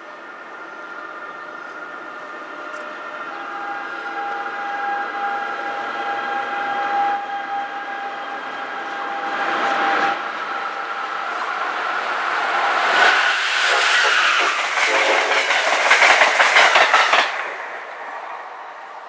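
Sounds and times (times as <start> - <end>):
electric train rushing past: 3.5 - 19.0.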